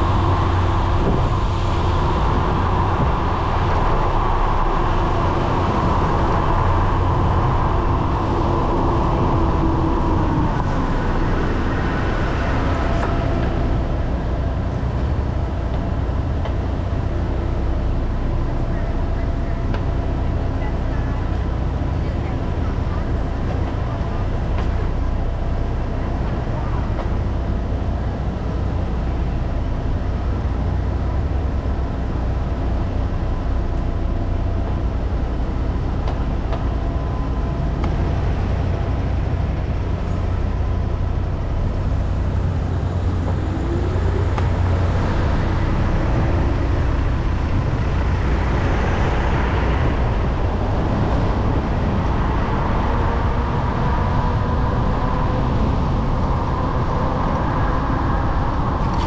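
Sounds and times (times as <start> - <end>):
faint wavering engine tones: 0.0 - 59.0
low rumble: 0.0 - 59.0
street traffic rushing: 0.0 - 59.0.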